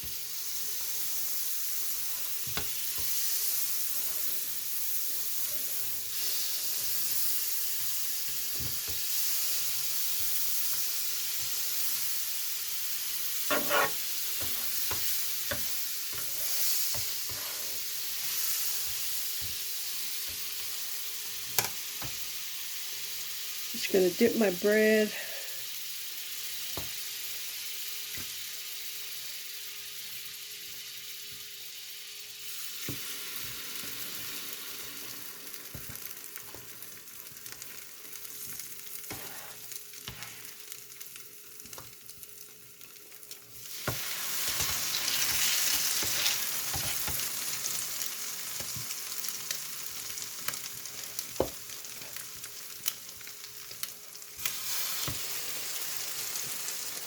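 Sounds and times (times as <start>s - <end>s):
bread sizzling on griddle: 0.0s - 57.0s.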